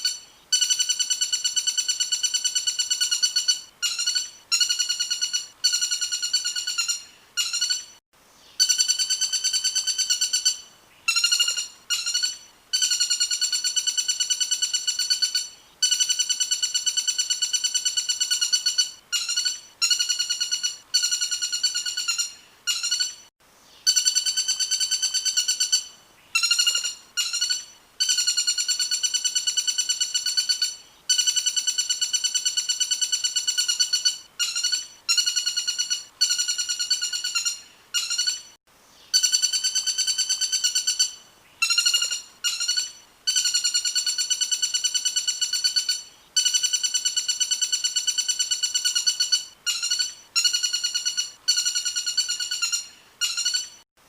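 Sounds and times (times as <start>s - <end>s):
songbird trilling: 0.0s - 8.0s, 8.6s - 53.8s.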